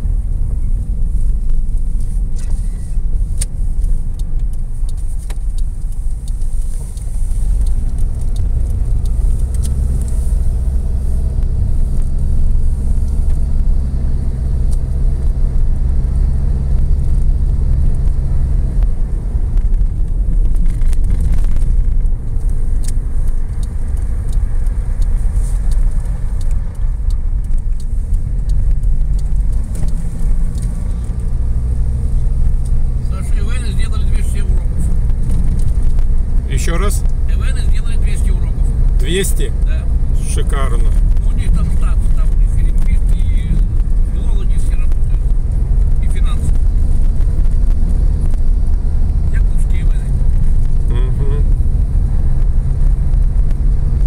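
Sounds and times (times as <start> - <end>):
car engine and tyres drone: 0.0 - 54.0.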